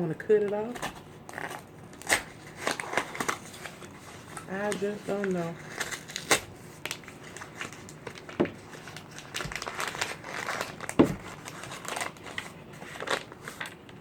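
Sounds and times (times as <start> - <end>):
box crinkling and crackling: 0.6 - 14.0.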